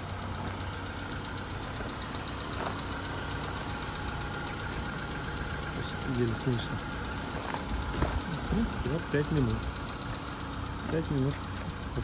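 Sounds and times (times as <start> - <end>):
car engine running: 0.0 - 12.0
faint engine knock: 0.2 - 12.0.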